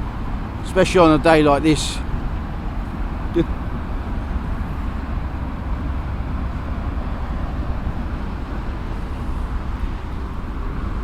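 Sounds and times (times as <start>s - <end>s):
distant vehicle rumble: 0.0s - 11.0s.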